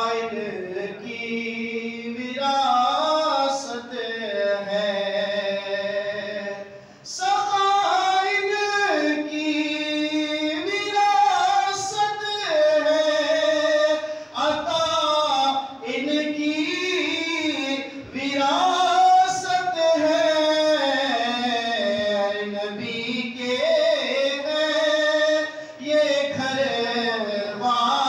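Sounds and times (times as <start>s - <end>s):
man singing unaccompanied: 0.0s - 28.0s.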